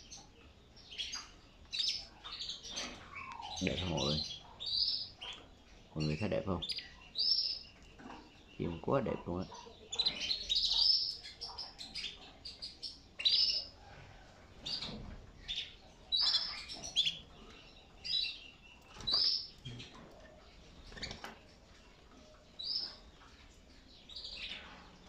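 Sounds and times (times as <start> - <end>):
canaries chirping: 0.0 - 25.0.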